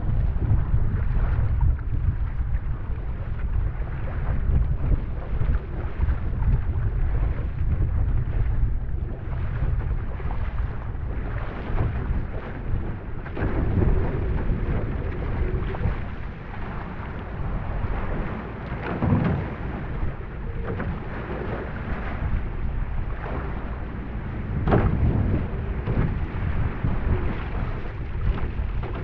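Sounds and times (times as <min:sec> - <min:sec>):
water rushing along canoe hull: 0:00.0 - 0:29.0
wind buffeting microphone: 0:00.0 - 0:29.0.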